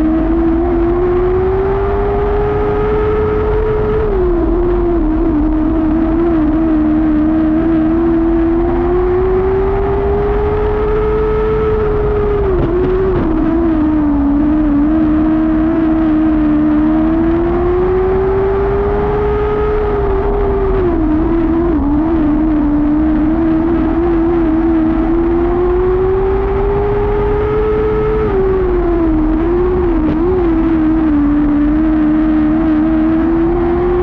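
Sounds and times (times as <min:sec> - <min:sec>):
race car engine running hard: 0:00.0 - 0:34.0.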